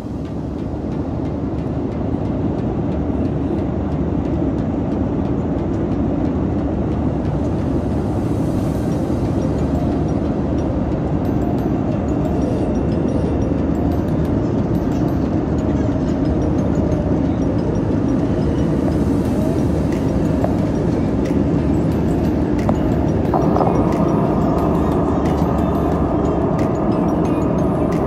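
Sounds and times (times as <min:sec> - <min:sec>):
airliner cabin noise: 0:00.0 - 0:28.0.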